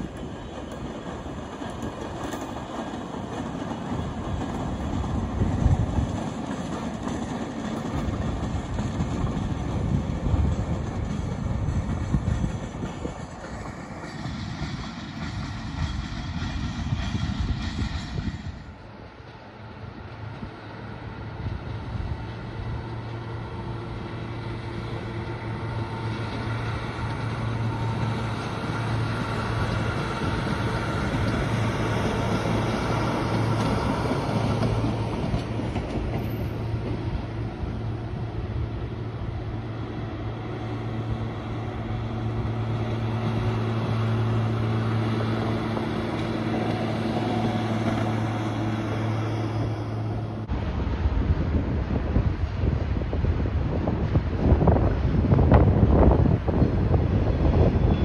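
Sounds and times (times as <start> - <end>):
rail grinder engine hum: 0.0 - 58.0.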